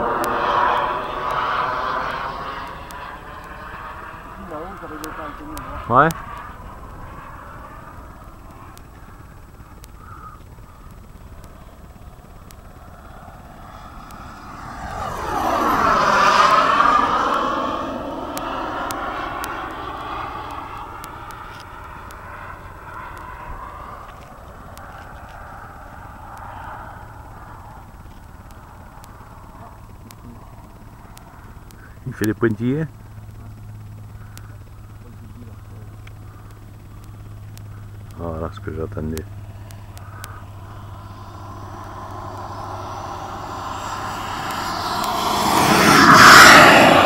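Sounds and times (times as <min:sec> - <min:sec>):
low rumble: 0:00.0 - 0:32.2, 0:32.8 - 0:47.0
model jet whine passing: 0:00.0 - 0:47.0.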